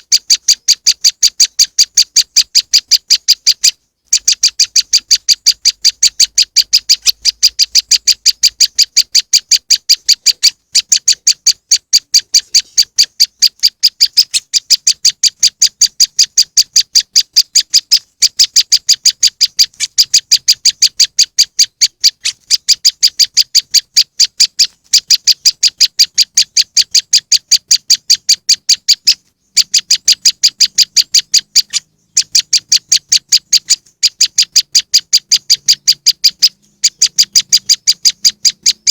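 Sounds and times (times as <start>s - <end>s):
bird calling high chips: 0.0s - 38.9s.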